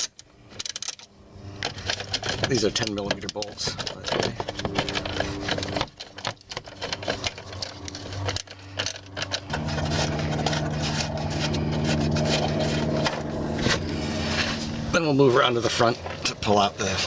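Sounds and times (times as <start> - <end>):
small metal rattles: 0.0 - 13.9
steady low hum: 0.1 - 17.0.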